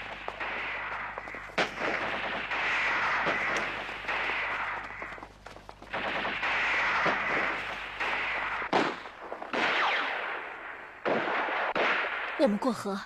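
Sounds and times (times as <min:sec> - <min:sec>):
loud single gunshot: 0:00.0 - 0:05.2, 0:05.9 - 0:12.4
automatic gunfire: 0:00.0 - 0:12.3.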